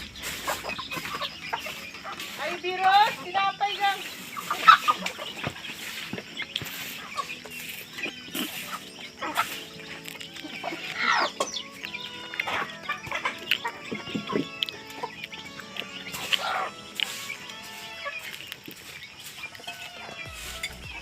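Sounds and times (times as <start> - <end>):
background music: 0.0 - 21.0
chickens clucking: 0.0 - 21.0.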